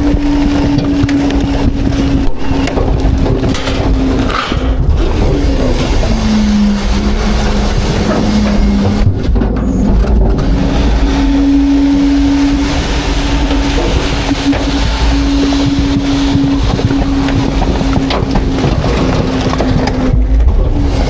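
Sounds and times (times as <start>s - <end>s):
engine low rumble: 0.0s - 21.0s
hydraulic whine: 0.0s - 21.0s
trash cracking: 0.0s - 21.0s.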